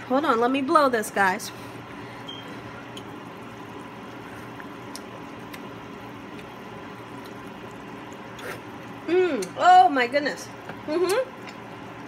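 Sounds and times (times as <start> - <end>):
broth simmering hiss: 0.3 - 12.0.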